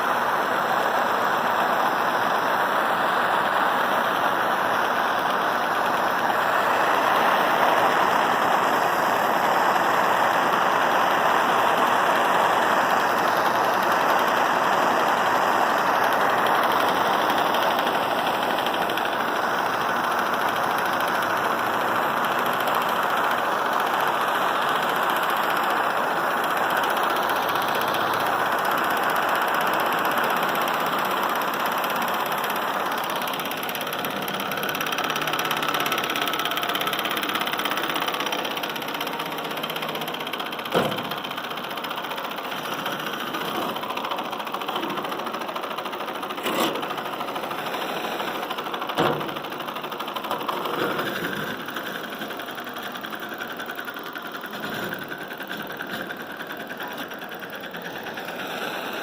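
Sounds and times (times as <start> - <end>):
stirling engine clatter: 10.4 - 59.0.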